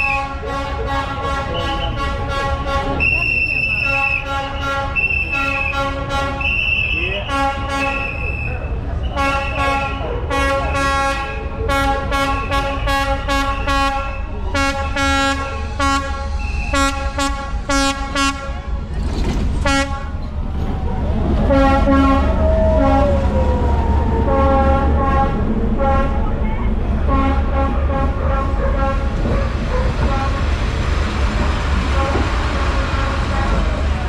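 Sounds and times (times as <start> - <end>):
train horn tooting: 0.0 - 18.9, 19.6 - 20.3, 21.4 - 23.3, 24.3 - 30.5, 31.9 - 33.6
train rumbling past: 0.0 - 34.0.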